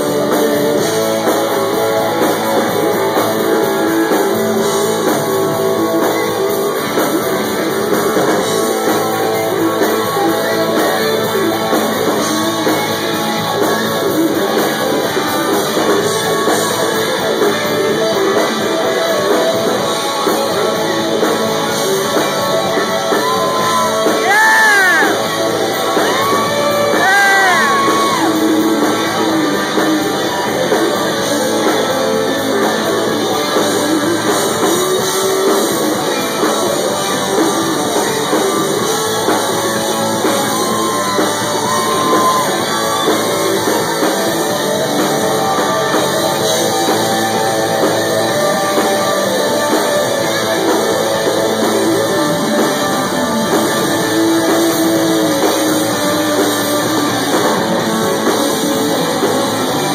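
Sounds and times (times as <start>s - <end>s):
bass guitar: 0.0s - 59.9s
drums: 0.0s - 59.9s
electric guitar lead with bent notes: 0.0s - 59.9s.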